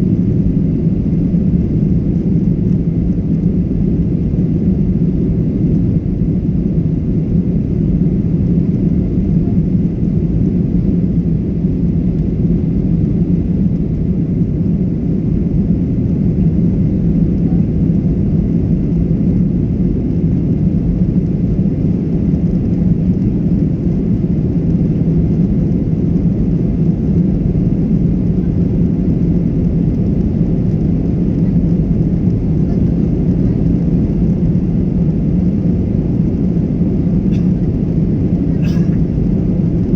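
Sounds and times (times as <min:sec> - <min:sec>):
jet engine and airflow rumble: 0:00.0 - 0:39.9.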